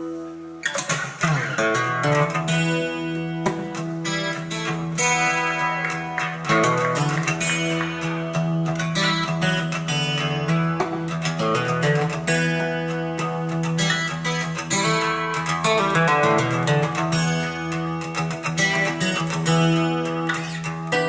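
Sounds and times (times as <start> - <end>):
guitar music over speakers: 0.0 - 21.0.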